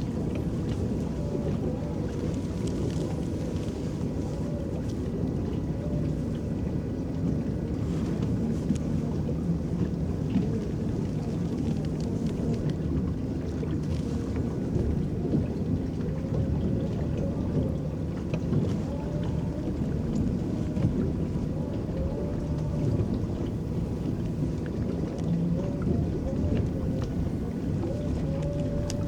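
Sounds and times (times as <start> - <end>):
faint wavering motor hum: 0.0 - 29.0
paddles churning water: 0.0 - 29.0
small water splashes: 0.0 - 29.0.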